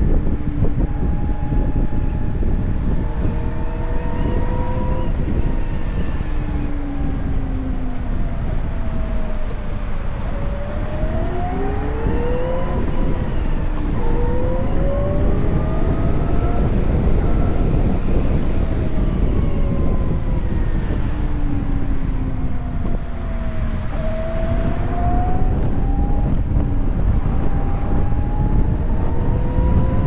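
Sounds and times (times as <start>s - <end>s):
electric motorcycle motor whining: 0.0s - 30.0s
wind and road noise: 0.0s - 30.0s.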